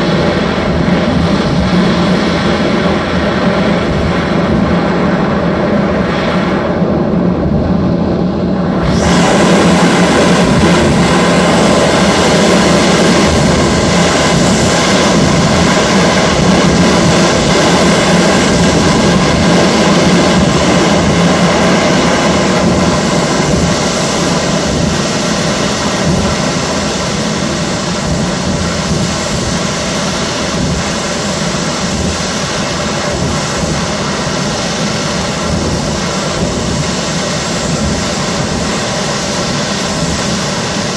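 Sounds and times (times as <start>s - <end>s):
jet engine roaring: 0.0s - 40.9s.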